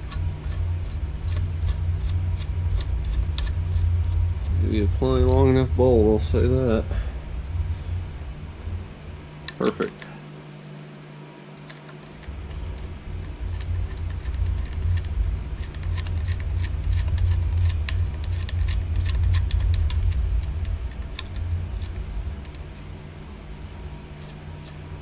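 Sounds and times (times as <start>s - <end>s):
low rumble: 0.0s - 10.1s, 12.2s - 25.0s.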